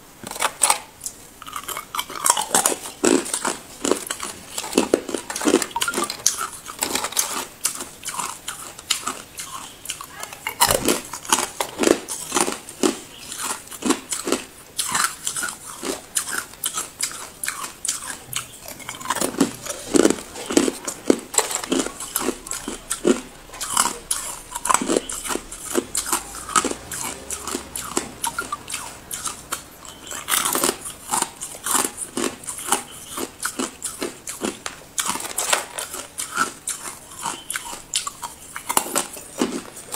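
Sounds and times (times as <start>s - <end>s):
ice cubes being chewed: 0.2s - 39.9s.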